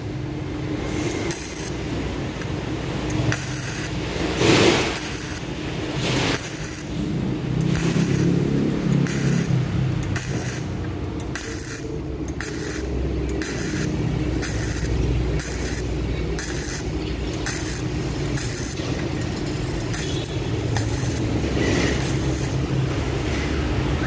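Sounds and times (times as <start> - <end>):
welding arc crackling: 0.0 - 23.5.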